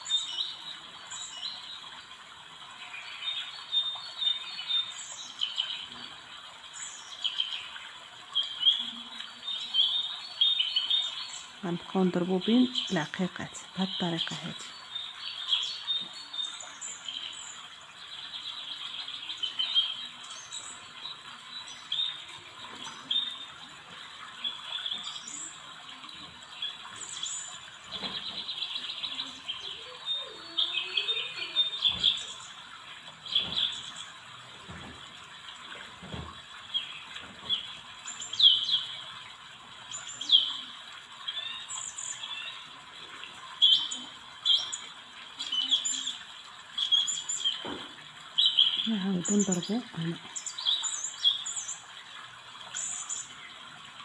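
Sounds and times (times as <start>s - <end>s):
small birds chirping: 0.0s - 52.0s, 52.6s - 53.6s.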